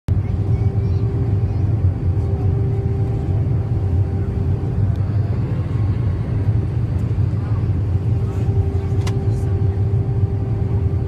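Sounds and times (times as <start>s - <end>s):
airliner engine rumble: 0.1s - 11.0s.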